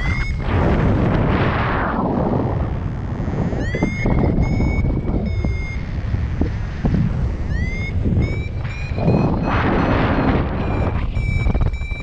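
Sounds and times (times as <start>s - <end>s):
variometer beeping: 0.0s - 0.8s, 3.0s - 12.0s
wind rush on microphone: 0.0s - 12.0s.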